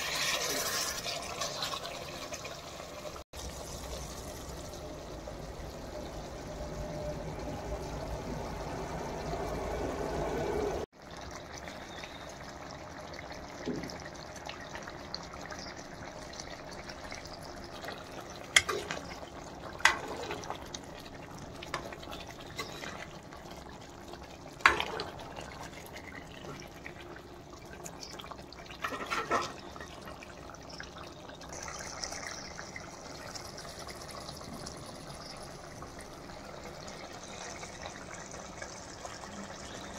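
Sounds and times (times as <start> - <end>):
curry bubbling: 0.0 - 39.9.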